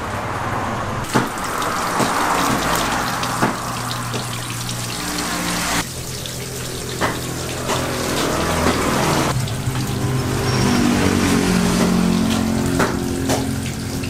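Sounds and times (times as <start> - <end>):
water running from a hose: 1.0 - 14.0
water splashing over meat: 1.1 - 14.0.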